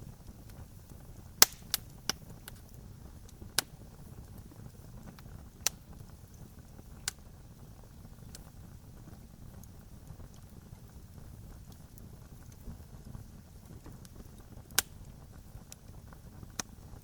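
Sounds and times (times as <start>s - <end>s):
low steady fire rumble: 0.0s - 17.0s
sharp pops from burning wood: 0.0s - 17.0s.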